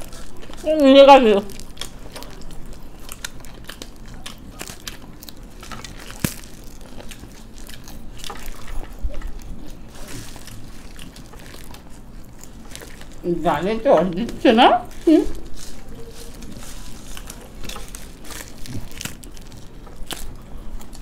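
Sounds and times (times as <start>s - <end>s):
people crunching and chewing snack: 0.0s - 21.0s.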